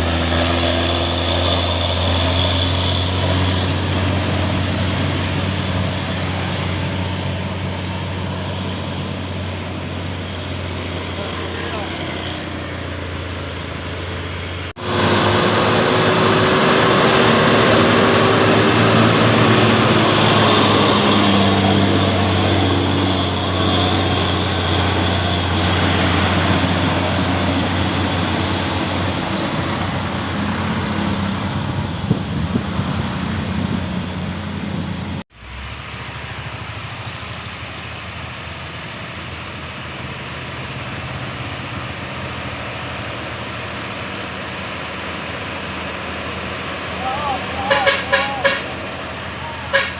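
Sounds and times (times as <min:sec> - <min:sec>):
dump truck diesel engine: 0:00.0 - 0:49.9
mechanical and road noise: 0:00.0 - 0:49.9.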